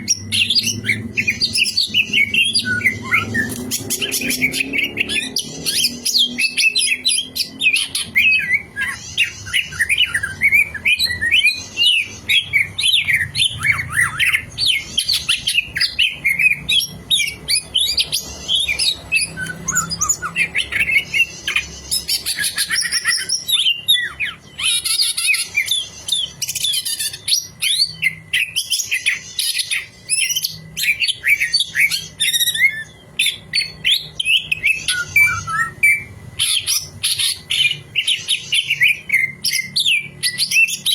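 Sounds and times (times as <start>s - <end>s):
bird singing chattering whistles: 0.0s - 40.9s.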